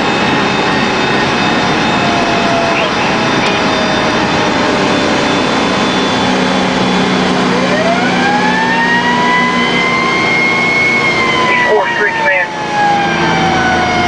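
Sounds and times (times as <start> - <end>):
fire truck engine and road noise: 0.0 - 14.0
siren rising in pitch: 0.0 - 14.0.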